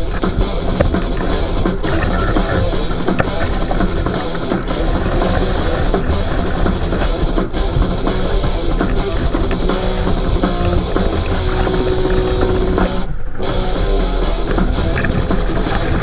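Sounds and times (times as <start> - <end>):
drum kit beat: 0.0 - 16.0
guitar: 0.0 - 16.0
rock music: 0.0 - 16.0.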